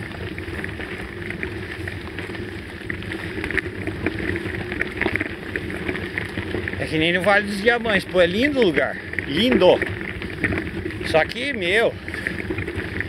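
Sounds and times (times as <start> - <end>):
bike tyres crunching on gravel: 0.0 - 13.0.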